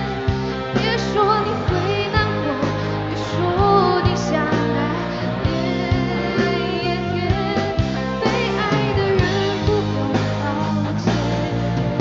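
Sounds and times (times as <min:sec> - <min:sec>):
live band playing pop ballad: 0:00.0 - 0:12.0
wavering lead melody: 0:00.0 - 0:12.0.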